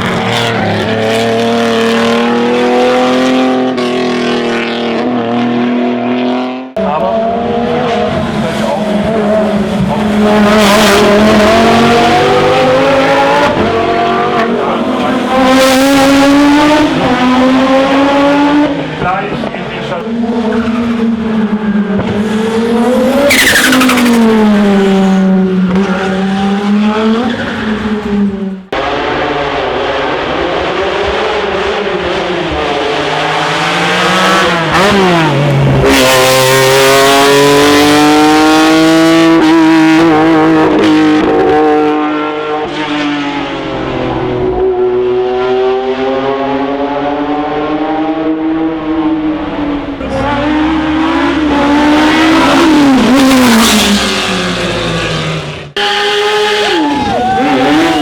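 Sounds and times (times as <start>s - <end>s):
racing car engine at full throttle: 0.0s - 58.0s.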